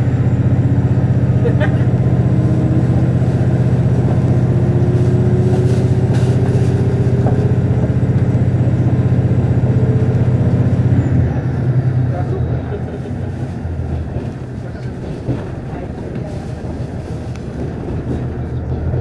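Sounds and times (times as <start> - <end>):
railcar engine drone: 0.0 - 19.0.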